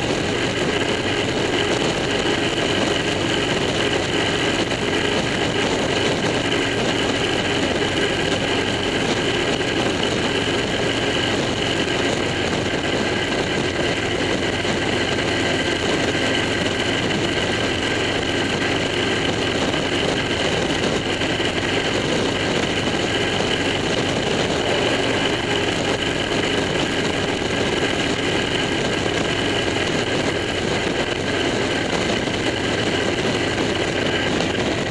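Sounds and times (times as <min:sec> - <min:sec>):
vehicle cruising at highway speed: 0:00.0 - 0:34.9.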